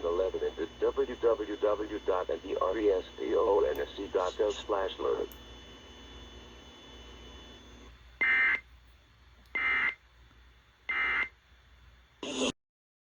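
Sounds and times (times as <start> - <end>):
faint radio hum: 0.0 - 12.5.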